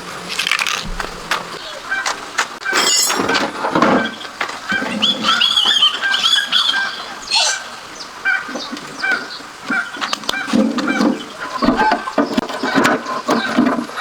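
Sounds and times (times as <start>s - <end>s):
birds chirping: 0.8s - 14.0s.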